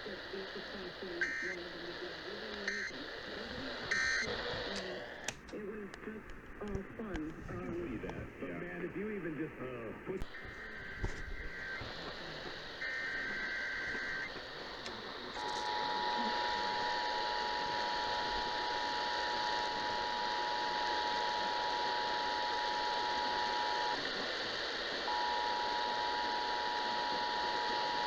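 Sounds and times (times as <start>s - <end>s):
radio hiss: 0.0s - 28.0s.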